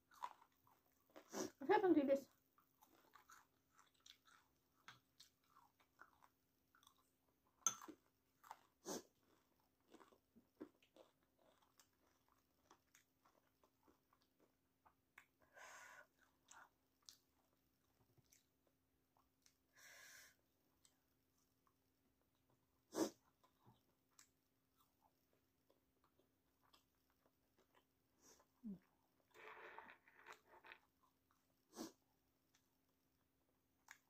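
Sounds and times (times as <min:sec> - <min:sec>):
chewing with crunches: 0:00.0 - 0:01.4, 0:02.3 - 0:15.4, 0:16.0 - 0:19.7, 0:20.7 - 0:31.5.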